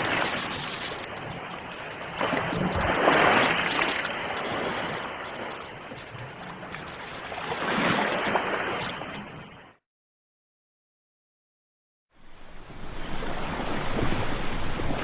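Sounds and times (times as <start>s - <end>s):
rushing water: 0.0s - 9.8s, 12.2s - 15.0s.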